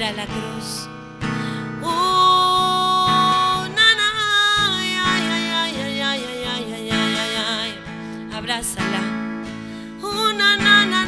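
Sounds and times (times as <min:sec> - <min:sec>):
strummed acoustic guitar: 0:00.0 - 0:11.0
woman singing: 0:00.0 - 0:11.0.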